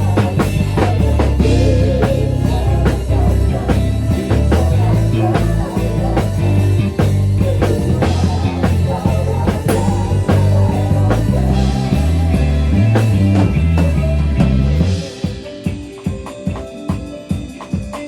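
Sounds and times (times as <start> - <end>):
bass line: 0.0 - 15.2
drum kit beat: 0.0 - 18.0
rock band music: 0.0 - 18.0.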